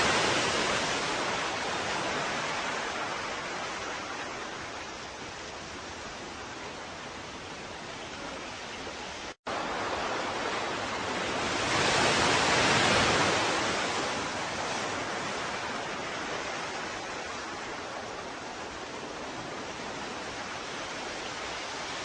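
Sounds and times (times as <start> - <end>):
ocean waves surf hiss: 0.0 - 22.0
wave washing in: 0.0 - 22.0.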